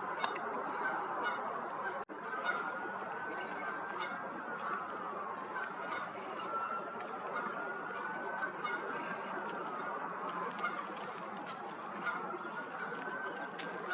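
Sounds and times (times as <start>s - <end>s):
elk bugling: 0.0s - 13.9s
steady background noise: 0.0s - 13.9s.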